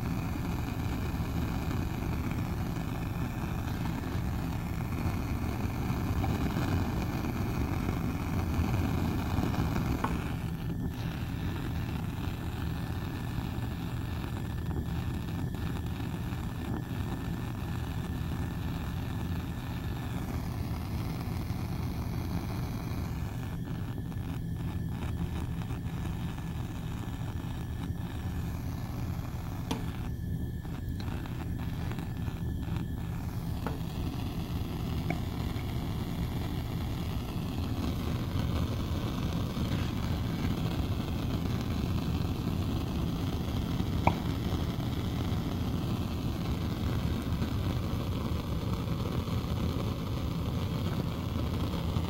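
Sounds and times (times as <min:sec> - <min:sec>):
gas flame rushing: 0:00.0 - 0:52.0.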